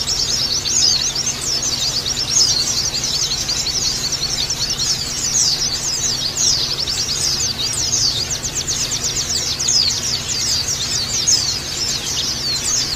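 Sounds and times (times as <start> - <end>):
birds twittering: 0.0 - 12.9.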